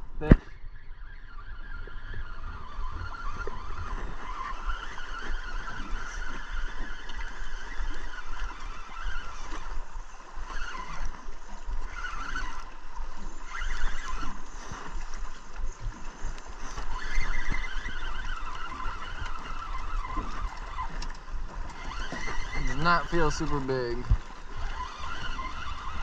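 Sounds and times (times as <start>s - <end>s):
spinning reel being cranked: 1.1s - 9.8s, 10.4s - 15.1s, 16.6s - 26.0s.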